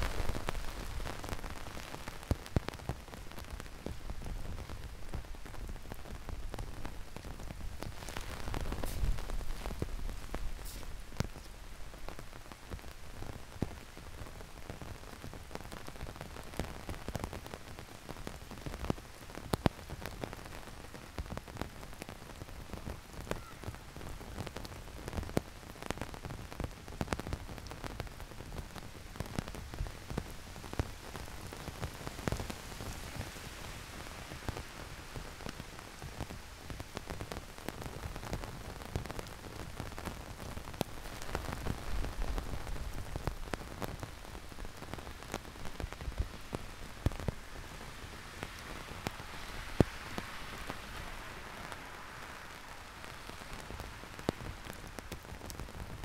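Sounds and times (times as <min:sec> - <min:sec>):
heavy rain: 0:00.0 - 0:56.0
raindrops ticking and splashing: 0:00.0 - 0:56.0.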